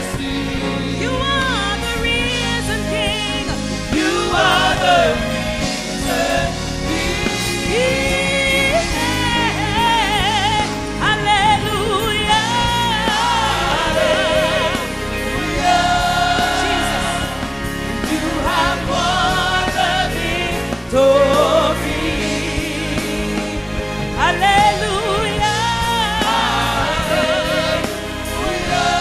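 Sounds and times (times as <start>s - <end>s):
gospel choir singing: 0.0s - 29.0s
lead singer singing with vibrato: 0.0s - 29.0s
live band playing: 0.0s - 29.0s.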